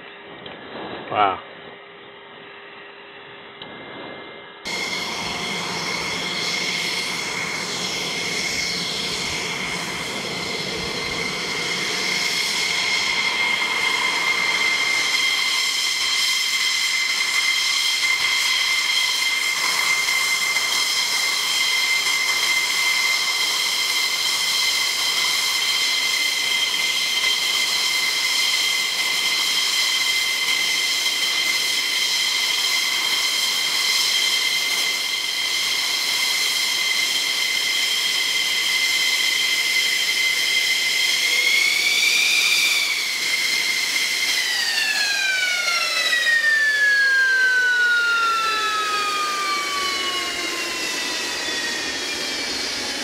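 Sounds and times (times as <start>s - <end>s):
jet engine idling whine: 0.0s - 53.0s.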